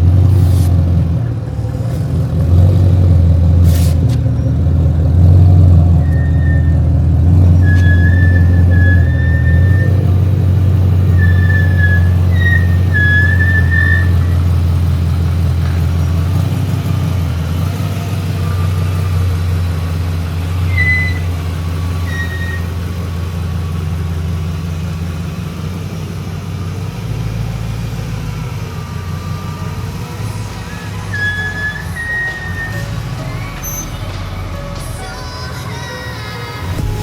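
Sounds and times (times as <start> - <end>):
engine rumbling at low revs: 0.0 - 37.0.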